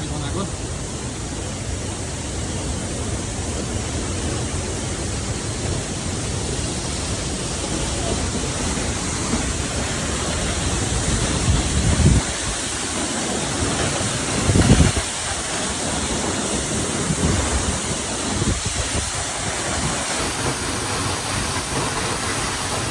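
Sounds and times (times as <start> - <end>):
waterfall rushing: 0.0 - 22.9
wind buffeting microphone: 0.9 - 22.9.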